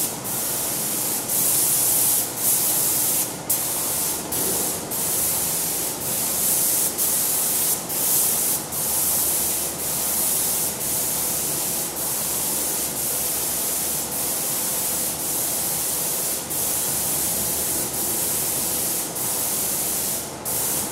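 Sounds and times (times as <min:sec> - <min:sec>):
paint sprayer hissing: 0:00.0 - 0:20.9.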